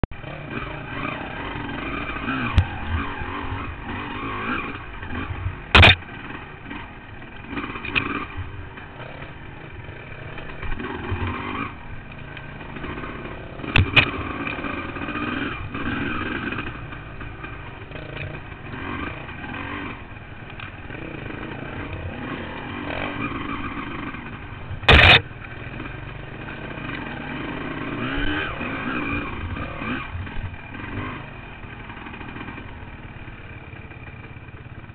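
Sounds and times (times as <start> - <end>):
dirt bike engine revving: 0.2 - 34.9.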